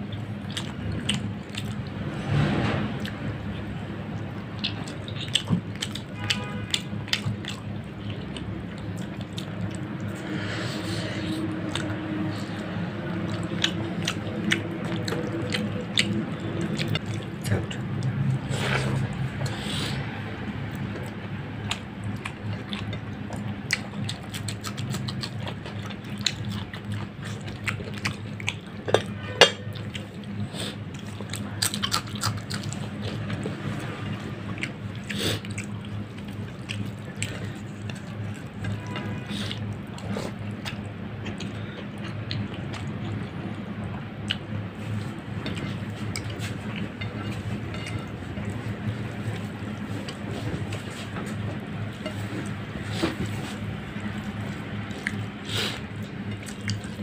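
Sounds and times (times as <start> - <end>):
chewing and lip smacks: 0.0 - 1.9, 4.2 - 20.1, 20.7 - 57.0.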